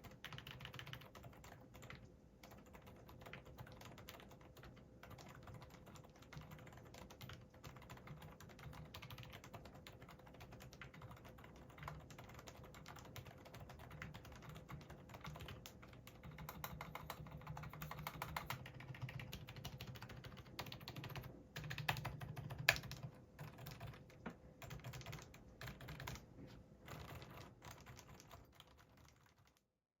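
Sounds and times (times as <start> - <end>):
fast typing on keyboard: 0.0 - 29.7.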